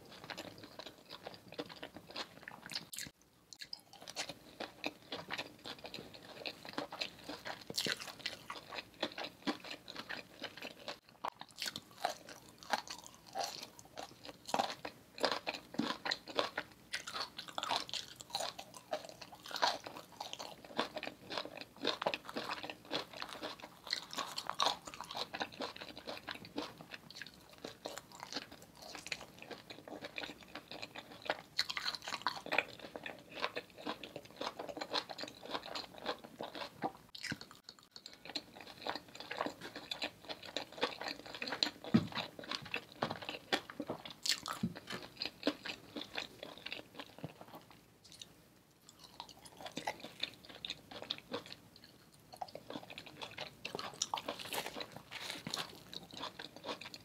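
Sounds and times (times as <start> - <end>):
chewing crunchy vegetables: 0.0 - 57.0.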